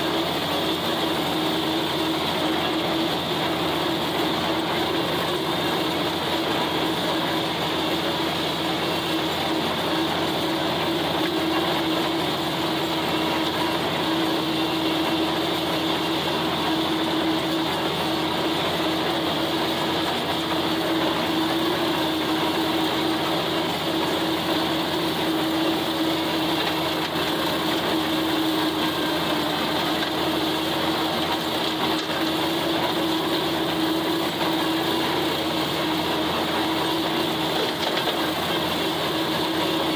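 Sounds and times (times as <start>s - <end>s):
tractor engine droning under load: 0.0s - 39.9s.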